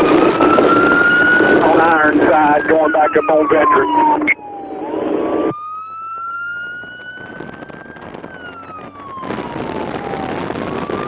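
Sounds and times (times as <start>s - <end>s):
motorcycle siren wailing: 0.0s - 11.0s
road and wind noise: 0.0s - 11.0s.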